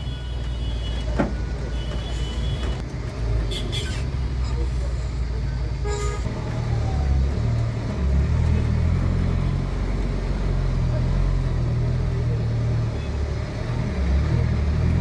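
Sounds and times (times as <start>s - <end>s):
bus and car engines rumbling: 0.0s - 15.0s.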